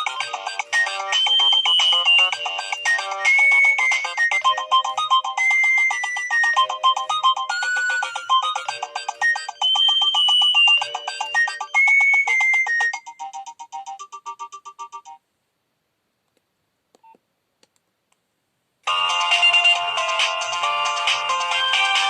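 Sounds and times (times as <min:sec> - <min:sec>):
phone ringtone melody: 0:00.0 - 0:15.2, 0:18.9 - 0:22.0.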